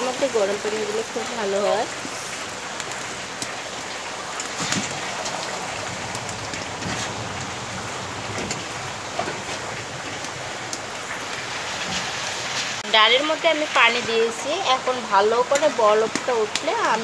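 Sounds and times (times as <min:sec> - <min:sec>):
stew bubbling and sizzling: 0:00.0 - 0:17.0.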